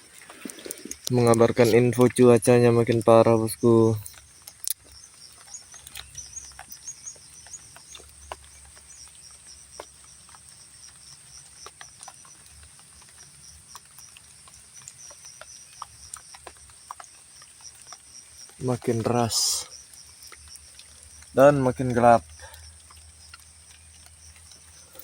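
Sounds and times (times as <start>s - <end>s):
insects chirring: 0.0s - 25.0s
raindrops tapping: 0.0s - 25.0s.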